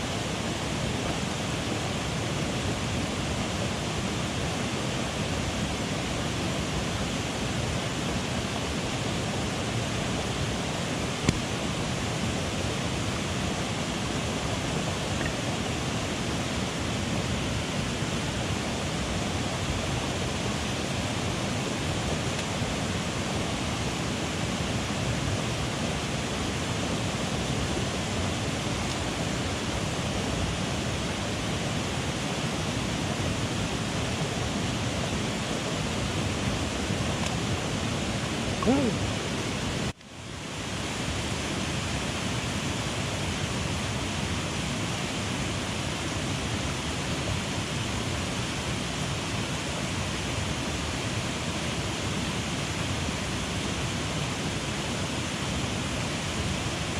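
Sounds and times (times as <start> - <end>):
stream rushing: 0.0 - 56.9.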